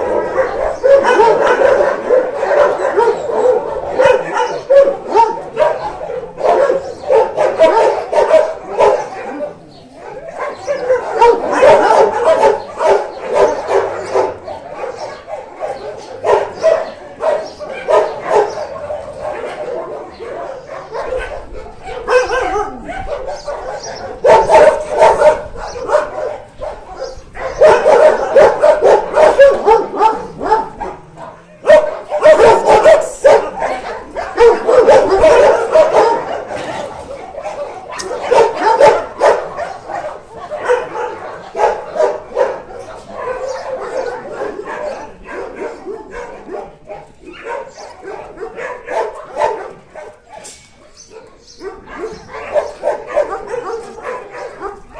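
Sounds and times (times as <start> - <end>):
dogs barking: 0.0 - 54.9.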